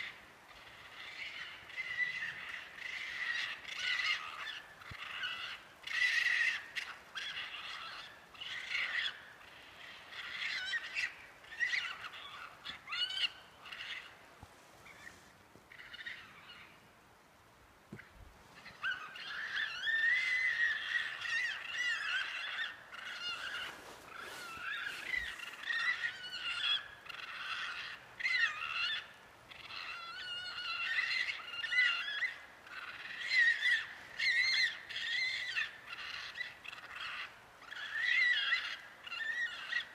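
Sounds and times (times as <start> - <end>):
wild animals calling: 0.0 - 16.8, 17.9 - 39.9.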